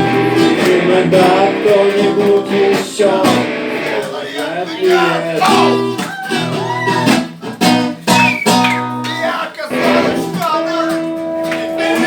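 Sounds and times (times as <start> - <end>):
person singing: 0.0 - 7.2, 9.2 - 12.0
acoustic guitar strumming: 0.0 - 12.0.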